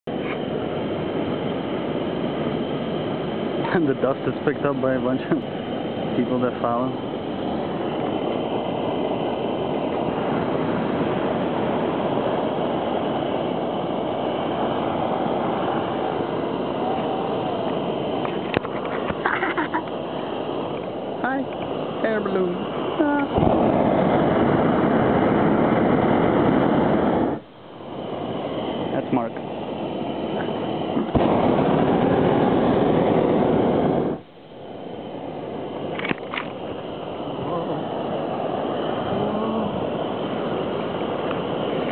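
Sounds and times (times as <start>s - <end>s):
propane burner firing: 0.0s - 41.9s.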